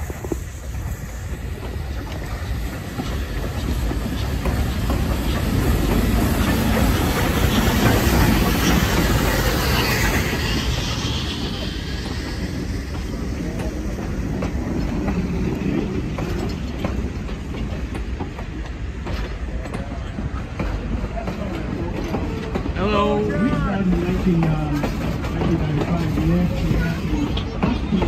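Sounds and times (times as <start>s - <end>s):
steam hiss: 0.0s - 28.0s
train wheels clicking over rail joints: 0.0s - 28.0s.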